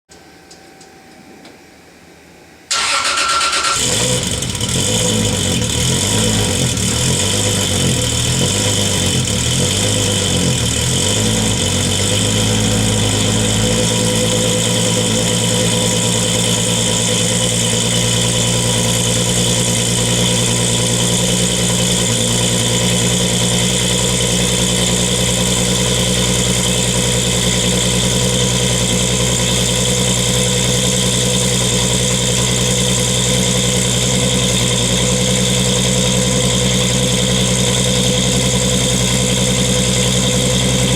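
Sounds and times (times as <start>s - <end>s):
car engine idling: 2.7s - 40.9s.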